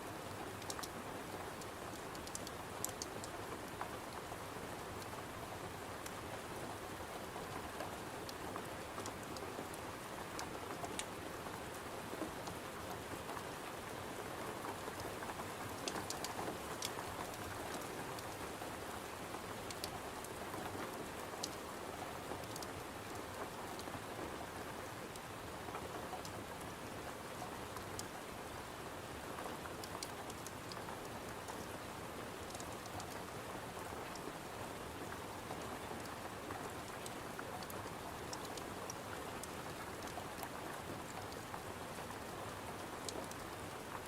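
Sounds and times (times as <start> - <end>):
rain on a window: 0.0 - 44.0.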